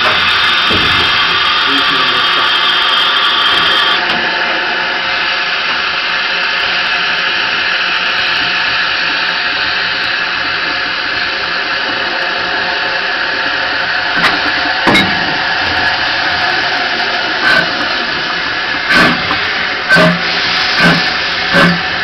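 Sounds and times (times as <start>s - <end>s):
steam hissing: 0.0s - 6.3s, 7.0s - 22.0s.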